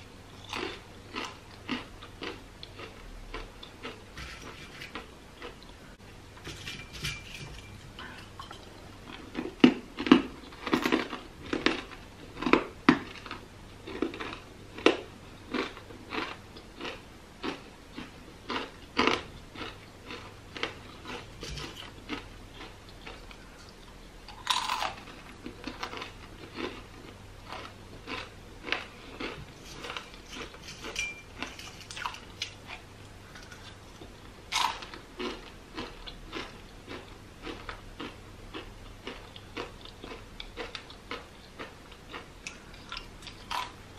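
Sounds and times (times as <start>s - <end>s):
crunching chips: 0.4s - 5.8s, 9.1s - 43.8s.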